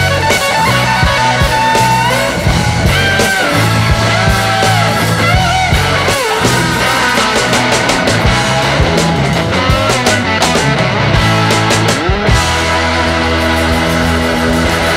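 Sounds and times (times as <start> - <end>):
rock music: 0.0 - 14.9.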